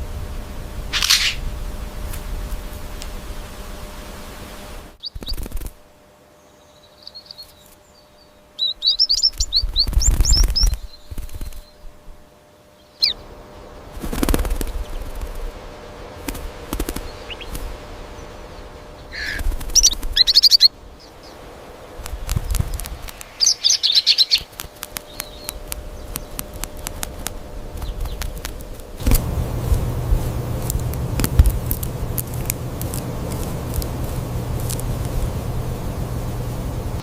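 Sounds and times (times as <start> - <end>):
wings flapping: 0.0 - 6.0, 8.8 - 12.3, 13.0 - 37.0
small bird chirping: 0.9 - 2.6, 4.4 - 36.4.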